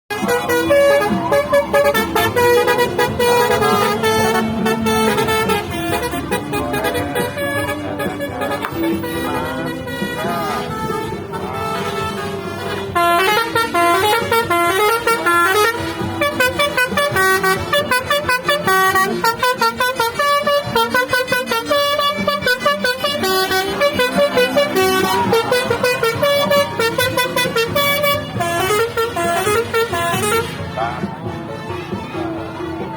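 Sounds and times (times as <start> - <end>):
multi-tone air horn melody: 0.1 - 32.9.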